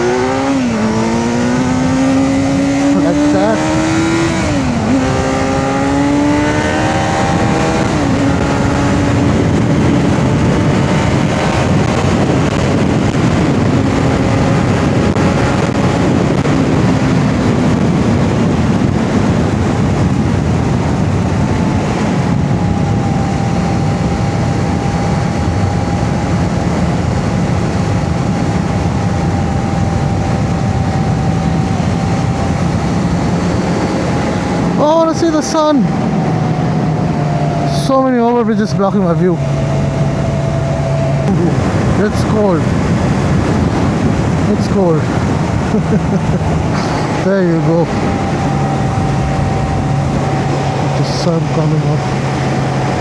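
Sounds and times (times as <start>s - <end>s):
motorcycle engine accelerating: 0.0s - 53.0s
wind rush: 0.0s - 53.0s.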